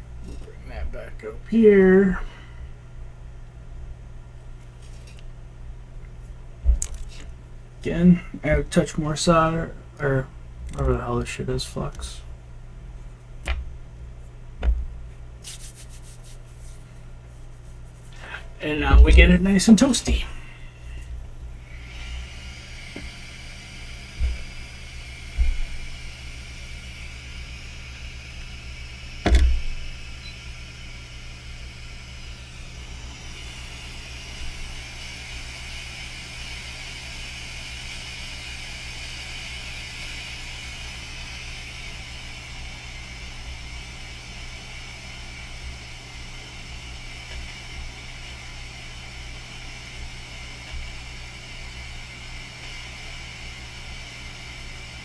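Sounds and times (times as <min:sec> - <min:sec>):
hot air station whirring: 0:00.0 - 0:03.6, 0:06.7 - 0:14.1, 0:16.8 - 0:55.0.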